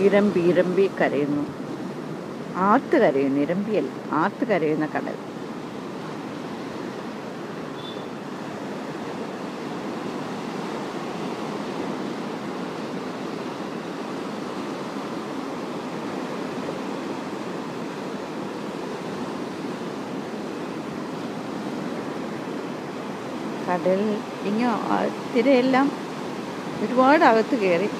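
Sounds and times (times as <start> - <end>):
sea surf breaking over rocks: 5.1 - 27.9.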